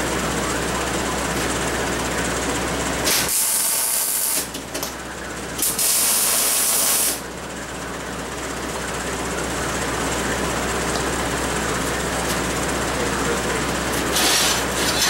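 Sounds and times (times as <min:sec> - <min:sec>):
steady shop hum: 0:00.0 - 0:15.0.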